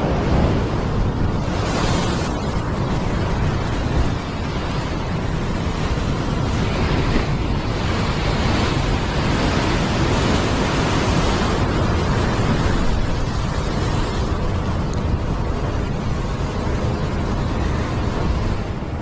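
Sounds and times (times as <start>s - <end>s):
surf breaking over rocks: 0.0s - 19.0s
wind buffeting microphone: 0.0s - 19.0s.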